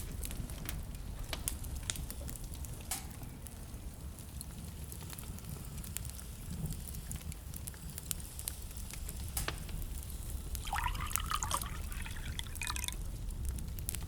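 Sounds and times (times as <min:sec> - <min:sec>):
bubbling sizzle: 0:00.0 - 0:14.0
fire crackling and popping: 0:00.0 - 0:14.0
fire rumbling: 0:00.0 - 0:14.0.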